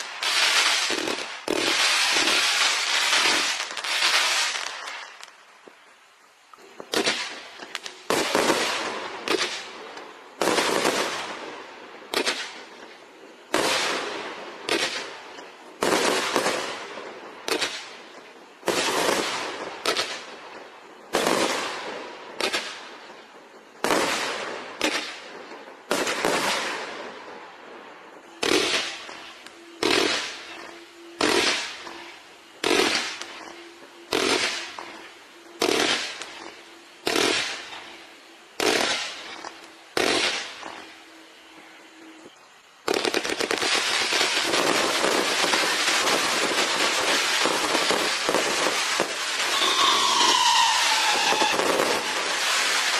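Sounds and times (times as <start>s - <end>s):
firework bangs with hiss: 0.0s - 52.9s.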